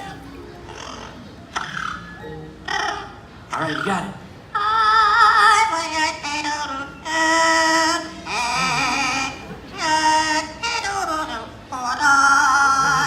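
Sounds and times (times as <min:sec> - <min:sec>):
parrot singing: 0:00.0 - 0:13.0.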